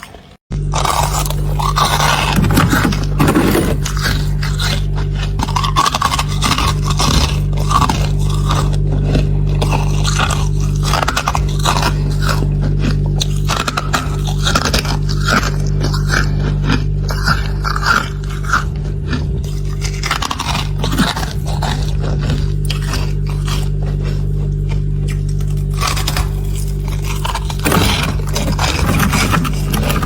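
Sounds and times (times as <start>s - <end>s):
frost crunching and scraping: 0.0s - 30.0s
steady low hum: 0.0s - 30.0s.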